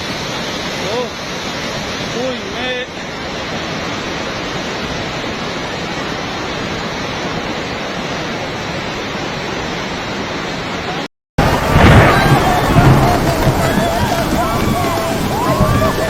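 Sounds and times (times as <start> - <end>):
floodwater rushing in river: 0.0 - 16.0.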